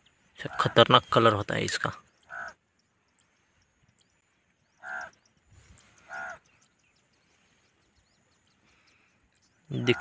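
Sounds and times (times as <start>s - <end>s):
bird harsh calls: 0.0s - 10.0s.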